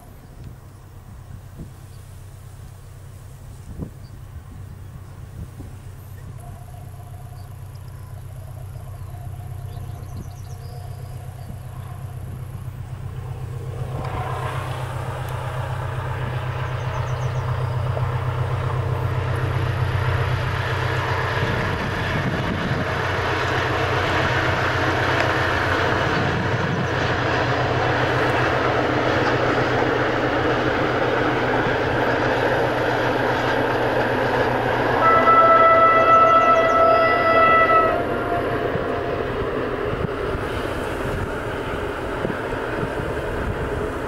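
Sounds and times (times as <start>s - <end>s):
diesel locomotive engine hum: 0.0s - 44.0s
train rolling noise: 0.0s - 44.0s.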